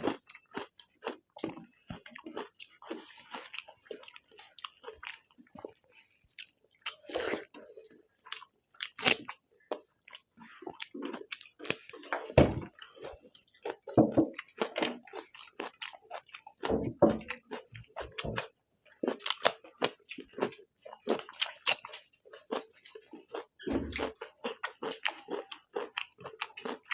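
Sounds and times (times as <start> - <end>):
people chewing food: 0.0 - 26.9.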